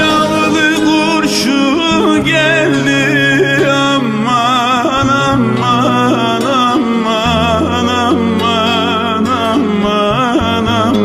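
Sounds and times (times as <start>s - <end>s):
held bass notes: 0.0s - 11.0s
person singing ornamented melody: 0.0s - 11.0s.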